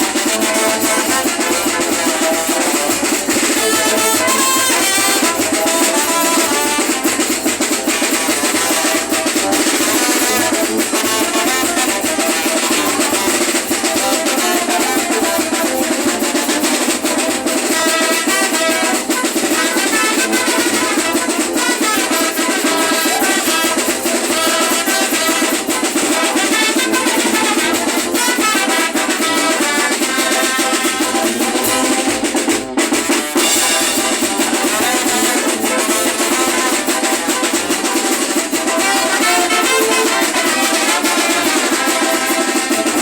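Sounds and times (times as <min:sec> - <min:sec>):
brass horns playing melody: 0:00.0 - 0:43.0
snare and bass drum beat: 0:00.0 - 0:43.0.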